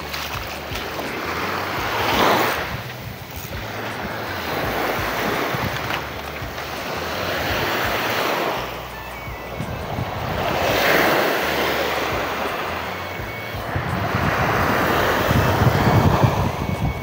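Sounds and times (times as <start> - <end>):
small waves breaking on beach: 0.0 - 17.0
wind on microphone: 0.0 - 17.0.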